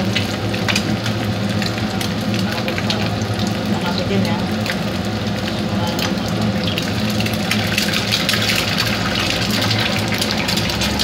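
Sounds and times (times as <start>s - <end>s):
eggs sizzling in oil: 0.0s - 11.0s.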